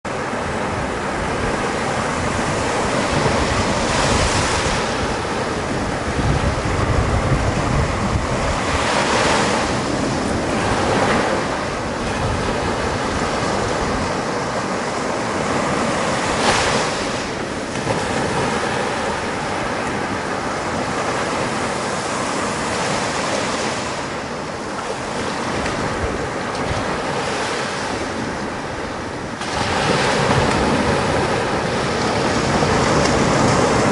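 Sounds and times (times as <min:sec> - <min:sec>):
small waves breaking on beach: 0:00.1 - 0:33.9
wind rumbling on microphone: 0:00.1 - 0:33.9.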